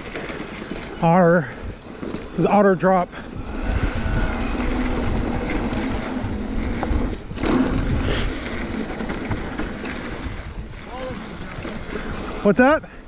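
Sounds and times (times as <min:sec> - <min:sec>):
bike rattling over bumps: 0:00.0 - 0:13.0
bike tyres rolling on dirt: 0:00.0 - 0:13.0
wind rushing over microphone: 0:00.0 - 0:13.0.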